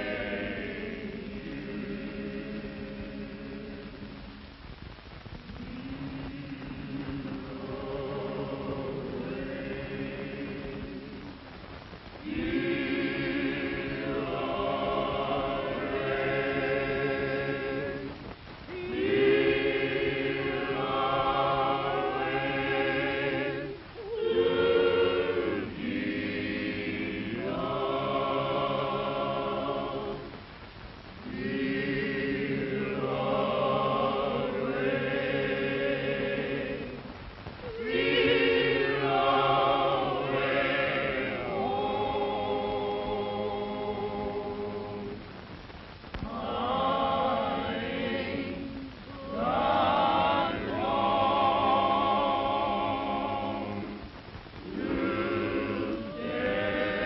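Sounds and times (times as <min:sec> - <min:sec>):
choir singing in harmony: 0:00.0 - 0:04.2, 0:05.5 - 0:11.4, 0:12.2 - 0:30.4, 0:31.2 - 0:45.2, 0:46.2 - 0:57.0.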